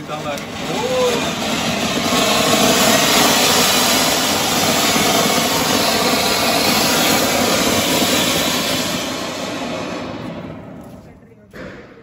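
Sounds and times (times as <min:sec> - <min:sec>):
firework hissing: 0:00.0 - 0:11.0.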